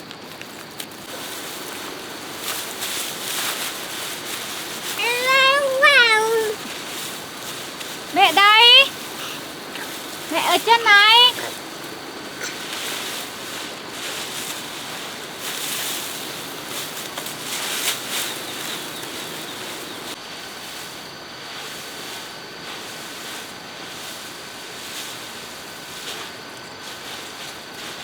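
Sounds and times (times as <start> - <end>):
wind-like rustling: 0.0 - 28.0.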